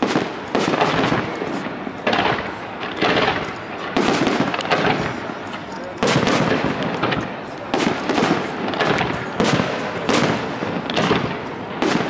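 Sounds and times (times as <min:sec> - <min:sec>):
firework shells bursting: 0:00.0 - 0:12.0
fireworks crackling: 0:00.0 - 0:12.0.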